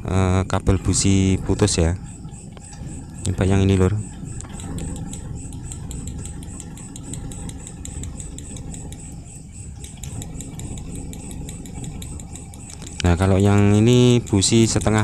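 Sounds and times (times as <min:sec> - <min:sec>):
car engine idling: 0:00.0 - 0:15.0
fast even ticking: 0:00.0 - 0:15.0.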